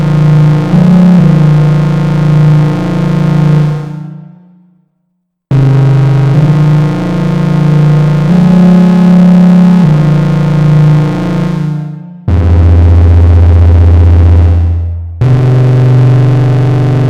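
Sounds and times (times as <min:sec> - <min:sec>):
synthesizer long held notes: 0:00.0 - 0:04.6, 0:05.5 - 0:17.0.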